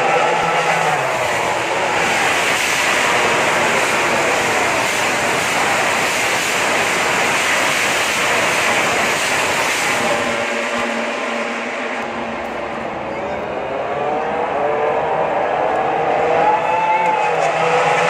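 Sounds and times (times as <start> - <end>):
racing motorcycles roaring: 0.0 - 18.0.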